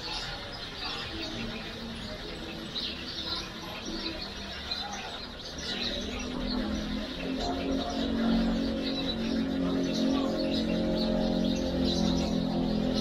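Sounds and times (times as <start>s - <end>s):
birds chirping: 0.0s - 13.0s
outdoor market rumble: 0.0s - 13.0s.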